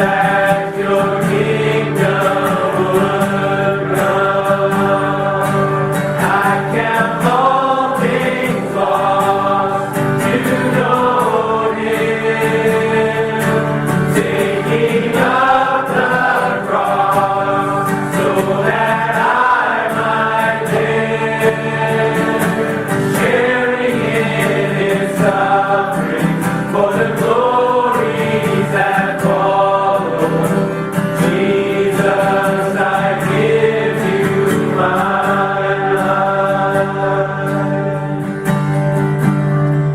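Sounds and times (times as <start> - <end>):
gospel choir singing: 0.0 - 39.0.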